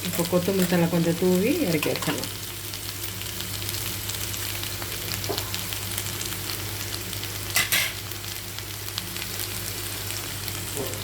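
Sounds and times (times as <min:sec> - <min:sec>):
meatballs sizzling in oil: 0:00.0 - 0:11.0.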